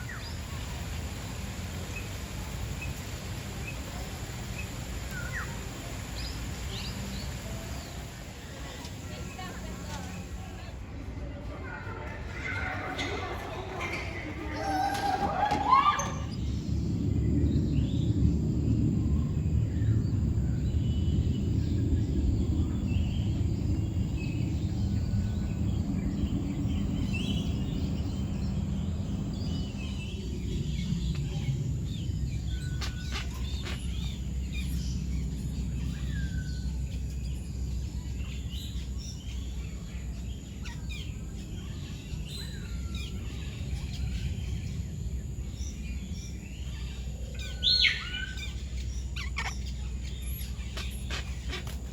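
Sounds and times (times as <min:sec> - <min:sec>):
birds chirping: 0:00.0 - 0:51.9
low background rumble: 0:00.0 - 0:51.9.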